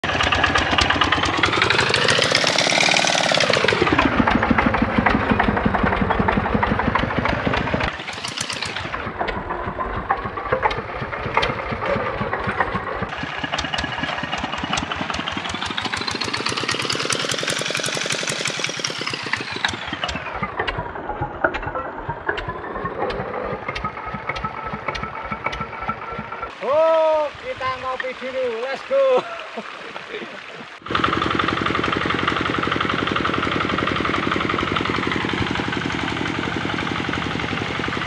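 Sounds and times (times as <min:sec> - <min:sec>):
diesel engine chugging: 0:00.0 - 0:28.4, 0:30.7 - 0:38.0.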